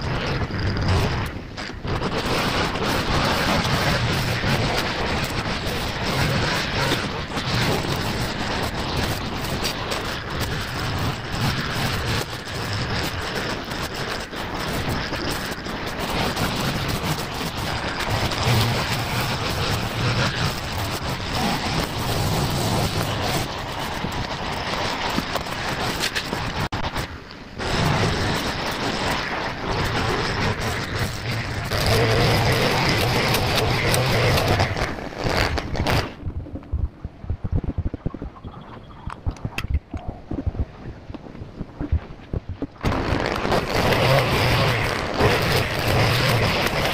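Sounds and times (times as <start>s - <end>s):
distant brush cutter running: 0.0s - 36.2s, 42.9s - 46.9s
rough rushing noise: 0.0s - 46.9s.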